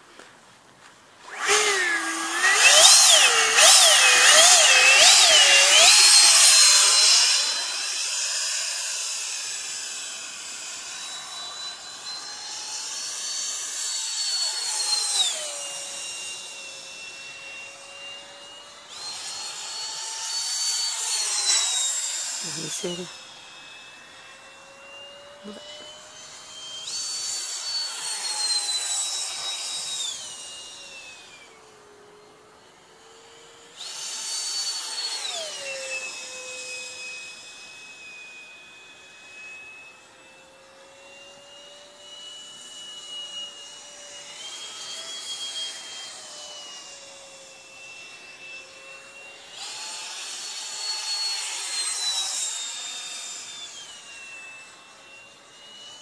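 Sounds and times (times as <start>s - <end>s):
model jet fan whine flying by: 0.0s - 56.0s.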